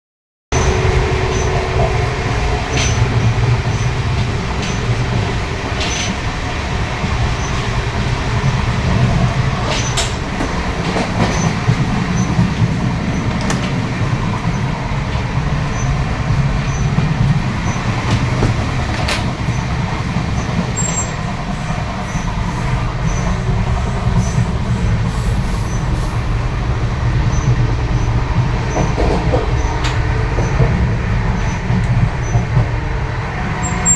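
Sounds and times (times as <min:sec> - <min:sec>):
train low rumble: 0:00.5 - 0:33.9.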